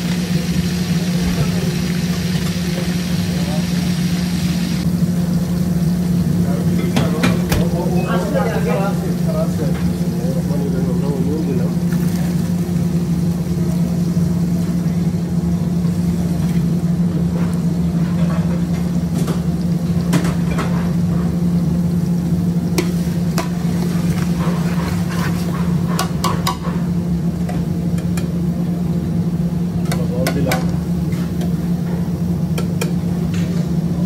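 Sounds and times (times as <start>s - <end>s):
faint sizzle: 0.0s - 34.0s
loud steady low hum: 0.0s - 34.0s.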